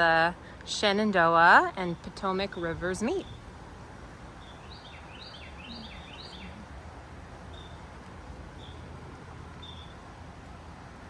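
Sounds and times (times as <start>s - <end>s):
low background rush: 0.0s - 11.0s
songbird singing: 0.8s - 11.0s.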